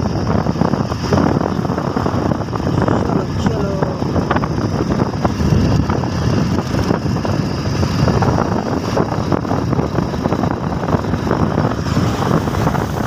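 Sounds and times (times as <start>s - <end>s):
motorcycle engine running: 0.0s - 13.0s
road noise: 0.0s - 13.0s
wind buffeting microphone: 0.0s - 13.0s.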